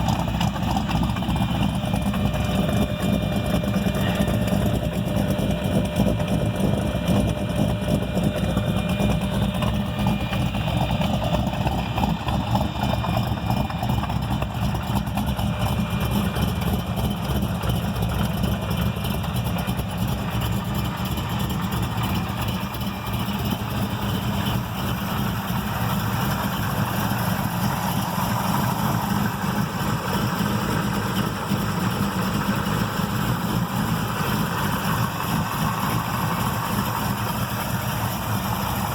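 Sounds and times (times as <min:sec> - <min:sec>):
rough lopey engine idle: 0:00.0 - 0:38.9.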